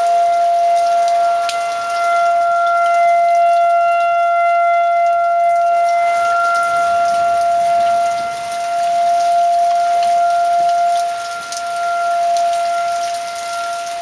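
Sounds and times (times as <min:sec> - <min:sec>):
warning siren steady tone: 0:00.0 - 0:14.0.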